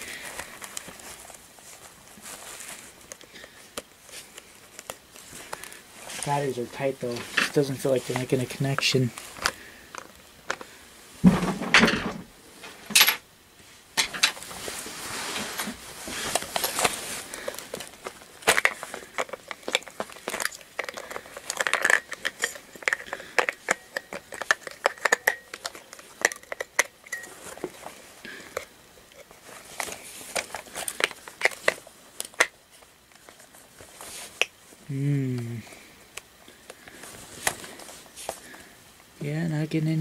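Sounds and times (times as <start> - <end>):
rustling and crinkling plastic: 0.0 - 12.9, 13.6 - 40.0.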